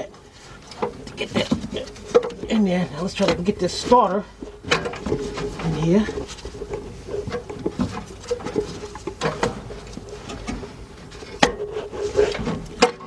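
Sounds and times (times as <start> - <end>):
clicks knocks and scrapes of metal parts: 0.0 - 13.0.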